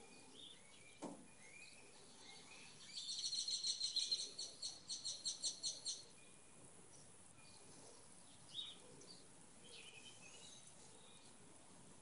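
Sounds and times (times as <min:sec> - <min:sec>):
bird chirping: 0:00.0 - 0:11.4.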